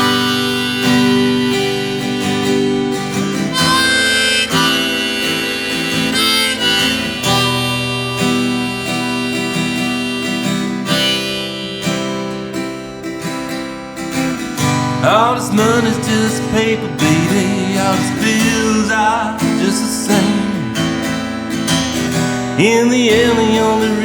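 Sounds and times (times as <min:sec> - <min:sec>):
harmonica melody: 0:00.0 - 0:24.0
strummed acoustic guitar: 0:00.0 - 0:24.0.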